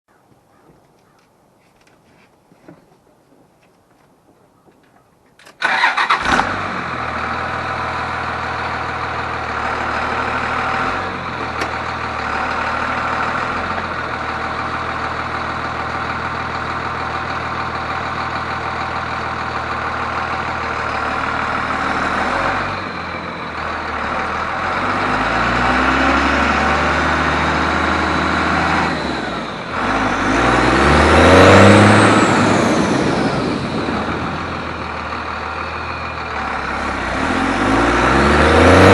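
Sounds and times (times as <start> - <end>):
diesel engine idling: 5.6 - 38.9
diesel engine revving: 5.6 - 38.9.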